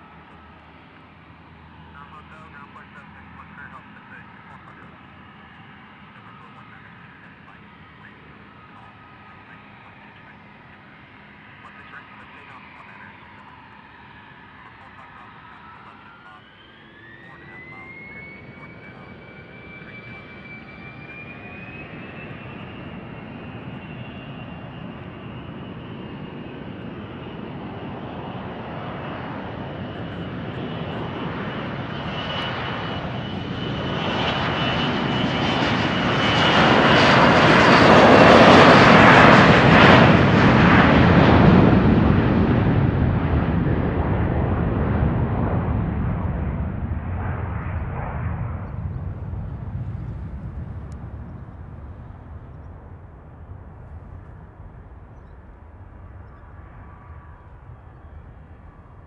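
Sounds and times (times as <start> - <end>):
jet engines spooling up: 0.0 - 59.0.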